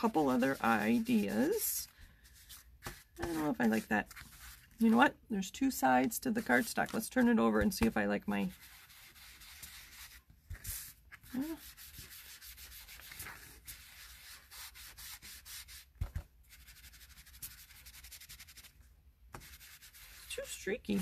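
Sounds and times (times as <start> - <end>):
sponge scuffing on paper: 0.0 - 21.0.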